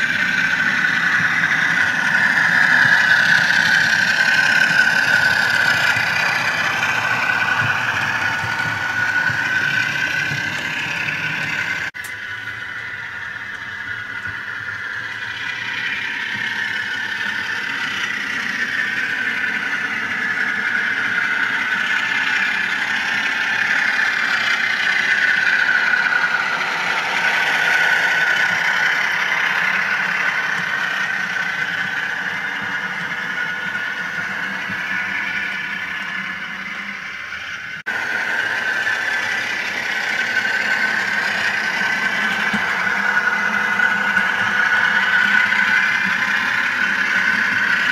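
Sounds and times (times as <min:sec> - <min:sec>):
model train running with a whine: 0:00.0 - 0:47.9.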